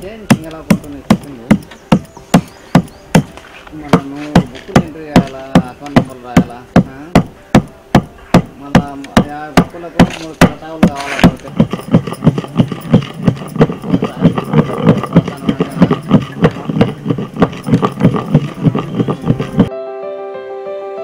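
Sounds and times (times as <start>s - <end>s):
pestle pounding in stone mortar: 0.0s - 19.7s.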